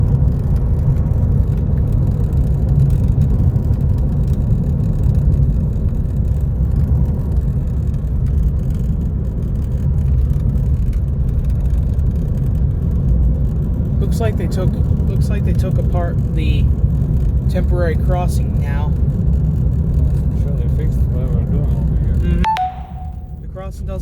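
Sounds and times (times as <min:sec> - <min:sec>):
road noise: 0:00.0 - 0:22.3
car engine rumble: 0:00.0 - 0:22.4.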